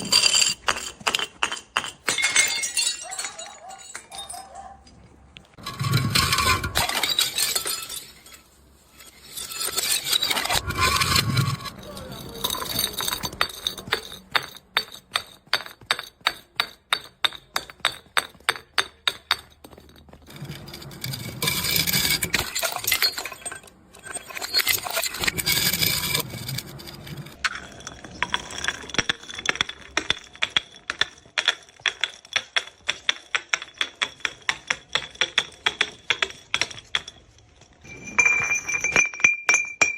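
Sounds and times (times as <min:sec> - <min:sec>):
glass bottles shattering: 0:00.0 - 0:05.0, 0:05.6 - 0:39.9
glass clinking down steps: 0:00.0 - 0:39.9.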